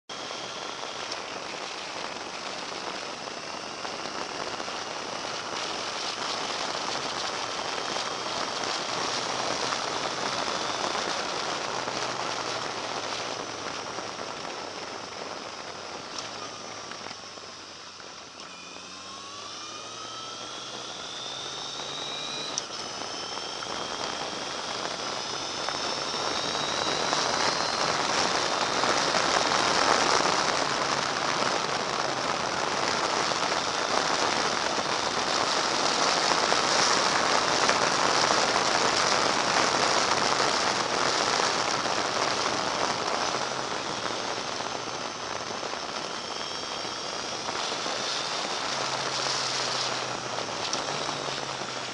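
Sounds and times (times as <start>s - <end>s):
wind rush on microphone: 0.1s - 17.7s, 19.2s - 51.9s
motorcycle engine accelerating: 0.1s - 51.9s.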